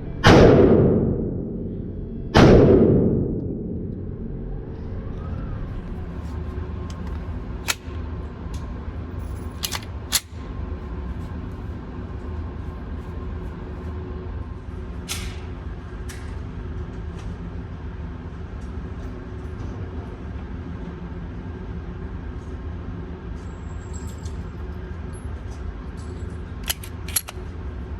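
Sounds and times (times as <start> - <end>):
low mechanical hum: 0.0 - 27.9.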